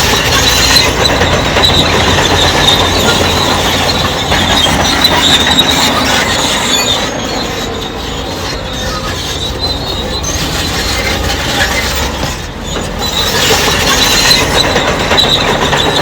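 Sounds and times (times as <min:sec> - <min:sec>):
bulldozer engine running: 0:00.0 - 0:16.0
bulldozer tracks squealing and clanking: 0:00.0 - 0:16.0.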